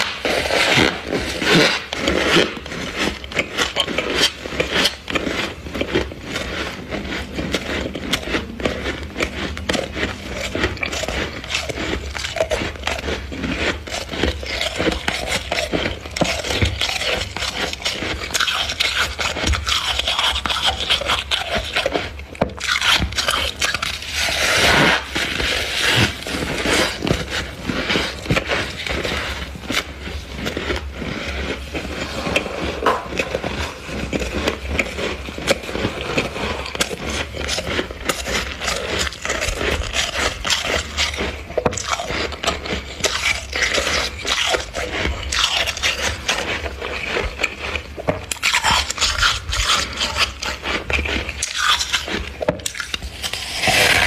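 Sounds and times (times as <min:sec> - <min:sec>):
frost being scraped and crunched: 0:00.0 - 0:54.0.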